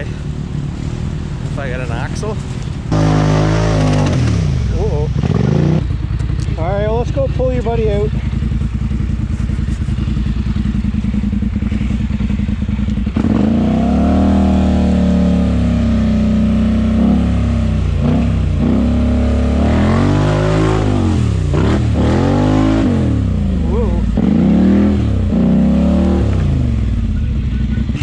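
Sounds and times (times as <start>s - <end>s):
atv engine revving: 0.0s - 28.0s.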